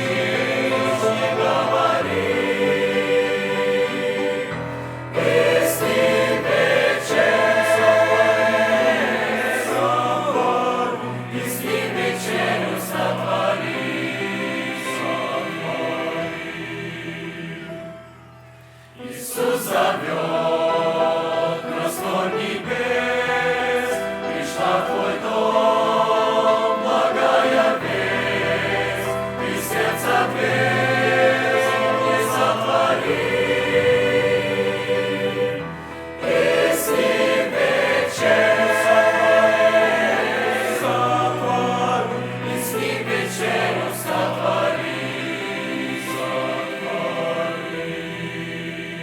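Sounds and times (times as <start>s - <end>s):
church choir singing a hymn: 0.0s - 49.0s.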